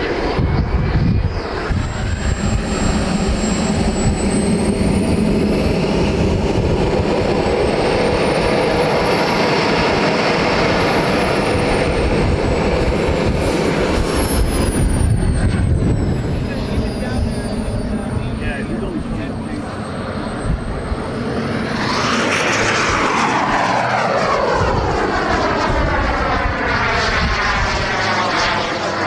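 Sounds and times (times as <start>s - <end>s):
gas turbine rush and whine: 0.0s - 29.0s.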